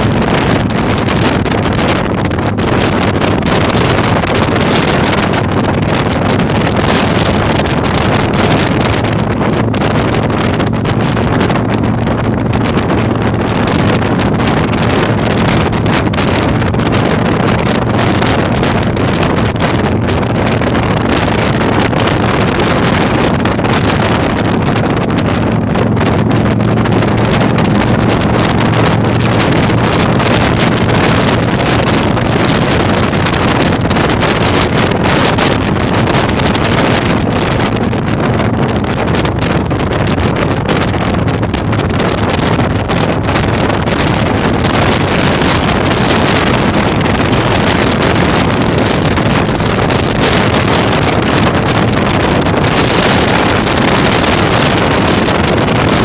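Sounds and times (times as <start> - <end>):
motorcycle engine: 0.0 - 56.0
wind buffeting microphone: 0.0 - 56.0.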